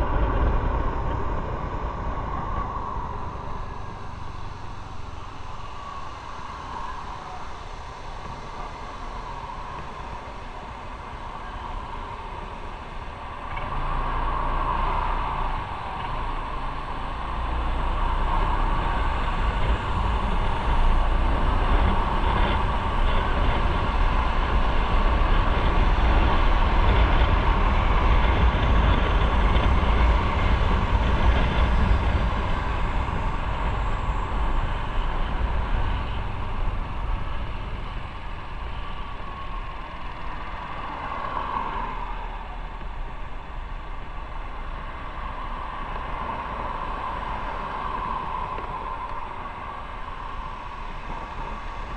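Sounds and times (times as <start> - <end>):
road noise: 0.0 - 51.9
wind noise: 0.0 - 51.9.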